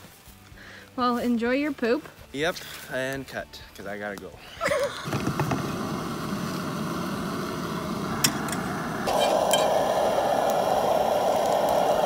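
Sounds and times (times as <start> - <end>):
camping stove hissing: 0.0 - 12.0.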